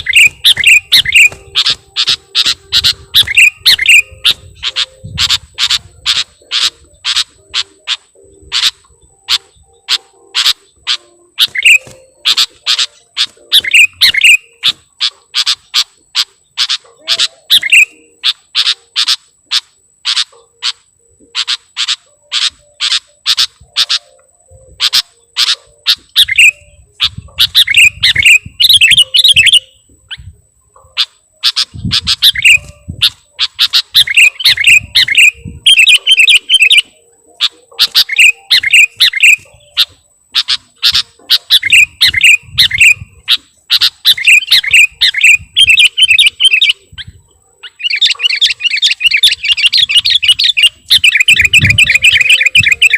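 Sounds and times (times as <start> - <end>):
bird chirping and warbling: 0.0 - 52.9.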